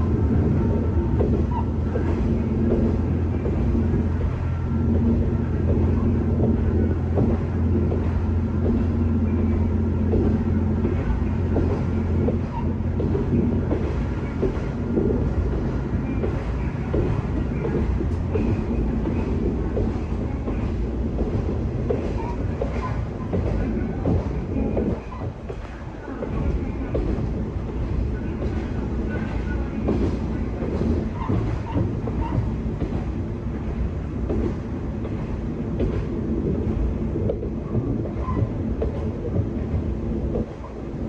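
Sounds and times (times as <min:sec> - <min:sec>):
diesel engine hum: 0:00.0 - 0:41.0
train running noise: 0:00.0 - 0:41.0
train wheels knocking on rail joints: 0:00.0 - 0:41.0.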